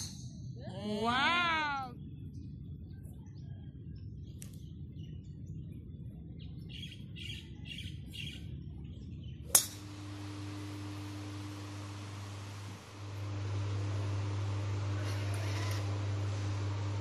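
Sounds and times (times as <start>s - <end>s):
low outdoor rumble: 0.0s - 17.0s
ventilation hum: 0.0s - 17.0s.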